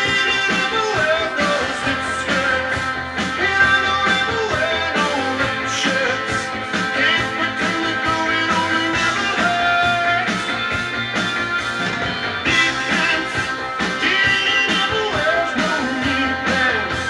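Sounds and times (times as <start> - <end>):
music from vinyl record: 0.0 - 17.0.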